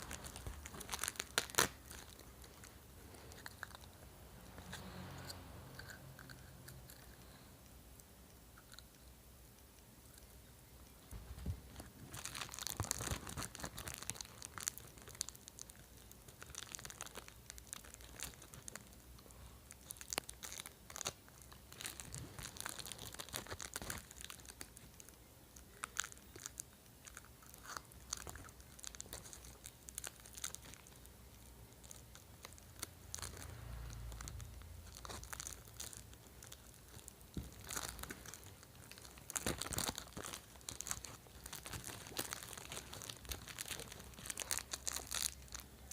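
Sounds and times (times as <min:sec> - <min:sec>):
plastic packaging crumpling: 0:00.0 - 0:03.9, 0:11.0 - 0:45.9.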